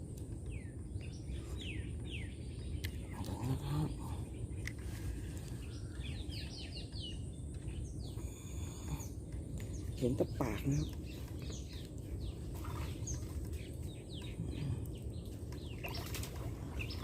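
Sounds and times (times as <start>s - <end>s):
steady low rumble: 0.0s - 17.0s
birds falling chirps: 0.4s - 17.0s.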